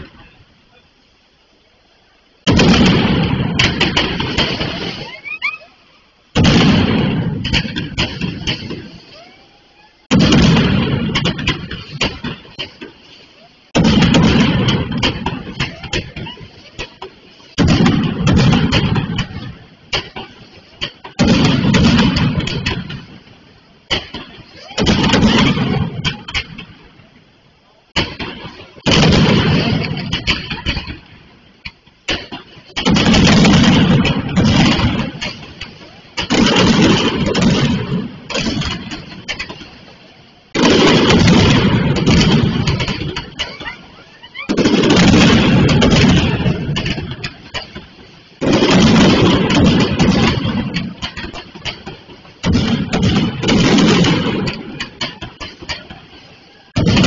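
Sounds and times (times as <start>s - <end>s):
firecracker bang volleys: 2.4s - 5.2s, 6.3s - 9.2s, 10.0s - 27.1s, 27.9s - 57.0s.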